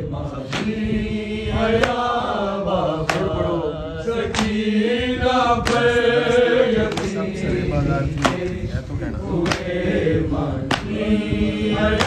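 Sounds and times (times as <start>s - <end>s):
men chanting a lament: 0.0s - 12.0s.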